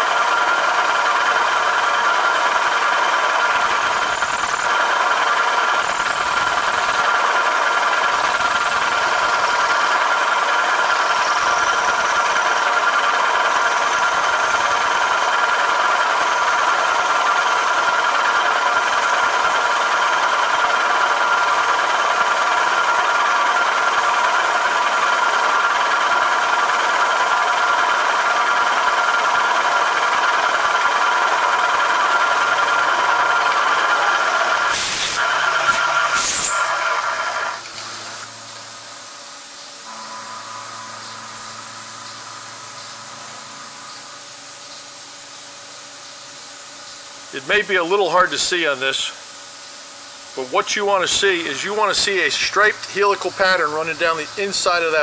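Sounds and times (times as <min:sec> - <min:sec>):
machine spindle drilling drone: 0:00.0 - 0:55.0.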